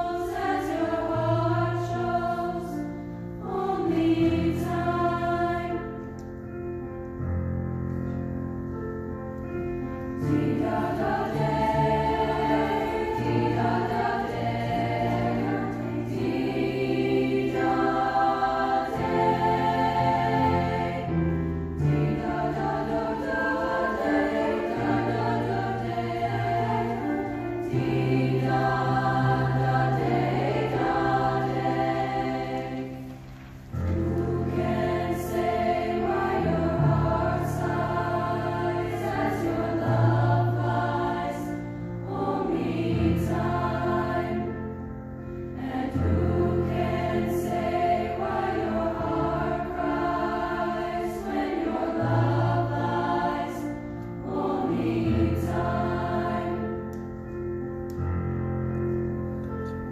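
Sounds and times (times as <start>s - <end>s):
women's choir singing in harmony: 0.0s - 59.9s.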